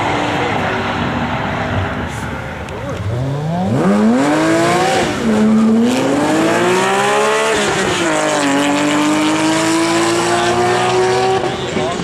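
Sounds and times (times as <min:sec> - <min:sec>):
sports car engine accelerating: 0:00.0 - 0:12.0.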